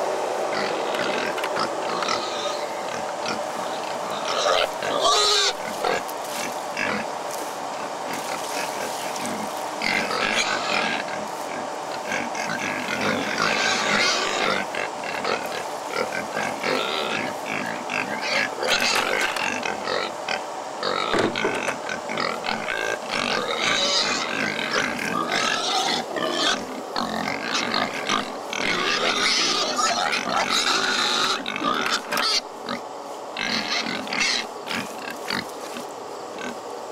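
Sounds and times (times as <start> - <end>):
pigs squealing and grunting: 0.5 - 7.1, 7.7 - 36.6.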